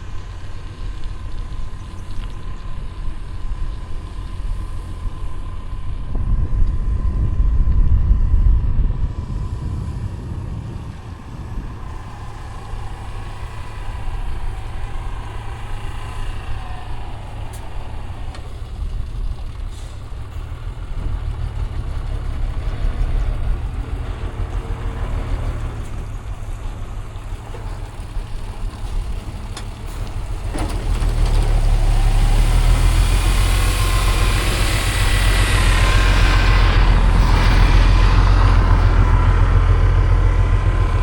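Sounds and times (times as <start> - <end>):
motor vehicles passing: 0.0 - 41.0
wind and road noise: 0.0 - 41.0.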